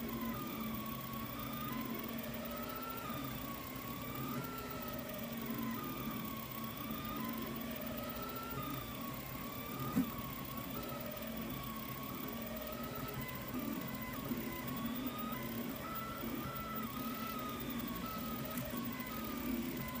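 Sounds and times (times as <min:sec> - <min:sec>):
stepper motors whining: 0:00.0 - 0:20.0.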